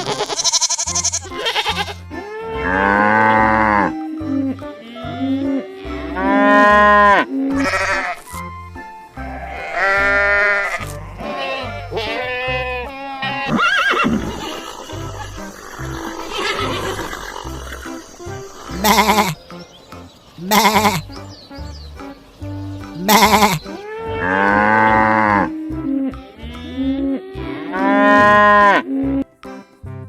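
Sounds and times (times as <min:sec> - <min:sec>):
farm animals calling: 0:00.0 - 0:08.5, 0:09.1 - 0:29.2.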